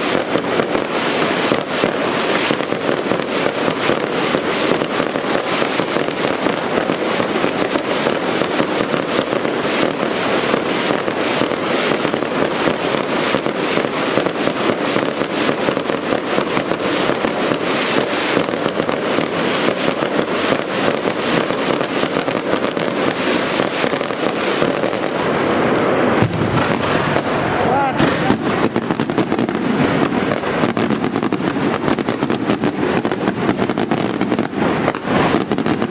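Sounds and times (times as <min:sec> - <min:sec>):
firecracker bangs: 0:00.0 - 0:35.9.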